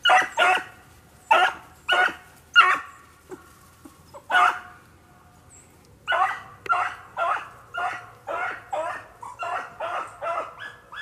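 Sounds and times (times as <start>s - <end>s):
hounds barking: 0.0s - 3.5s, 4.1s - 4.8s, 6.0s - 11.0s.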